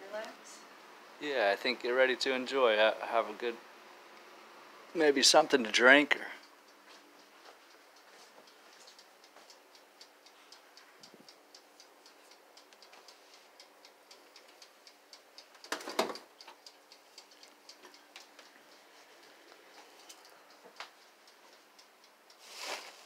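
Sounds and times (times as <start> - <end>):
faint mechanical ticking: 0.1 - 23.0.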